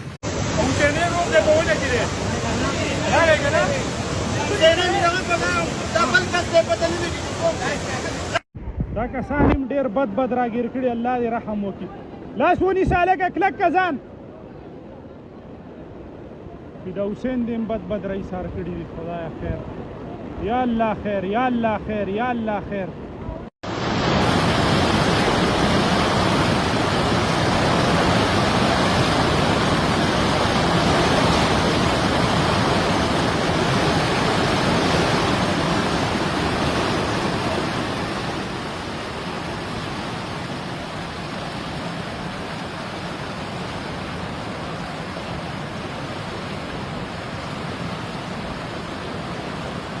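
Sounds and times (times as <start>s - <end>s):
rushing floodwater: 0.0s - 8.5s, 9.2s - 50.0s.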